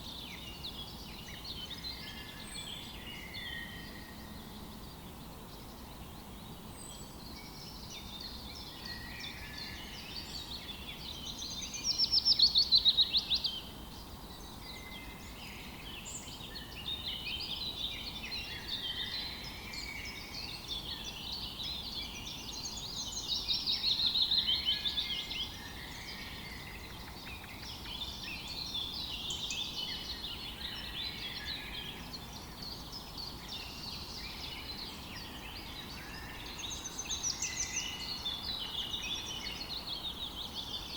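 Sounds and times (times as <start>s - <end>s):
songbirds chirping and singing: 0.0s - 40.9s
steady background hiss: 0.0s - 40.9s.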